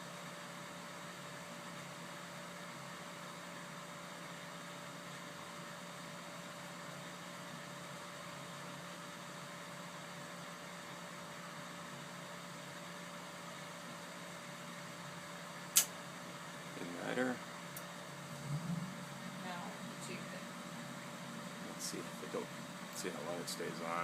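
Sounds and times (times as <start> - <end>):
boiler blower humming: 0.0 - 24.0.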